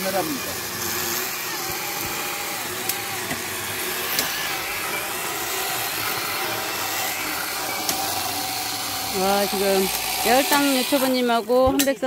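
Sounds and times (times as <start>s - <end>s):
chainsaw cutting logs: 0.0s - 12.0s.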